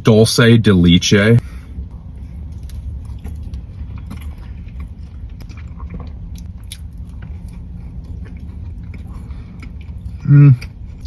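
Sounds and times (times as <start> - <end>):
steady low hum: 0.0 - 11.0
person chewing cookie: 2.0 - 11.0.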